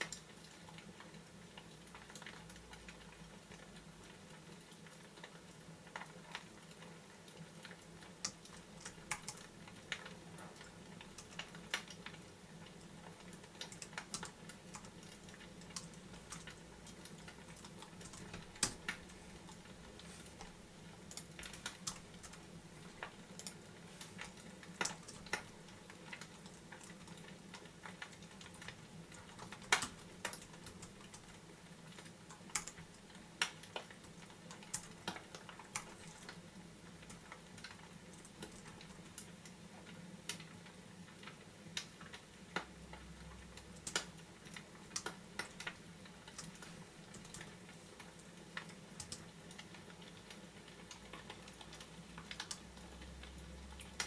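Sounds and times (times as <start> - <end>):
fireplace crackling: 0.0 - 54.0.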